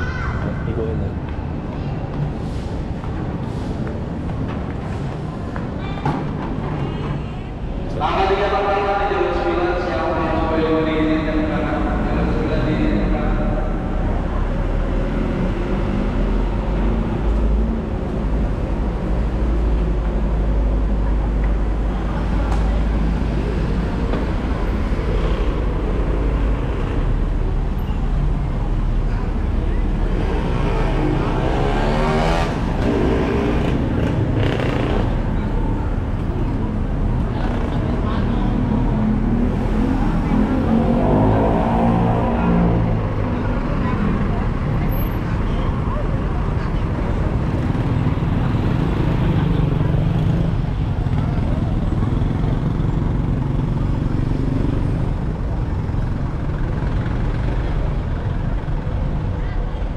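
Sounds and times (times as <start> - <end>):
low traffic rumble: 0.0 - 59.9
motorcycle engines passing: 0.0 - 59.9.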